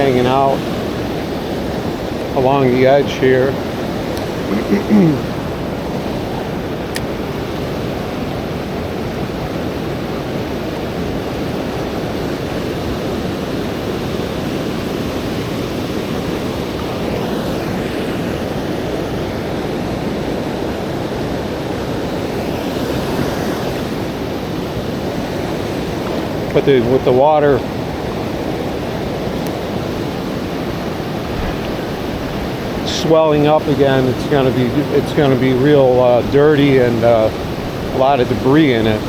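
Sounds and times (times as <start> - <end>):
river current rushing: 0.0 - 39.0.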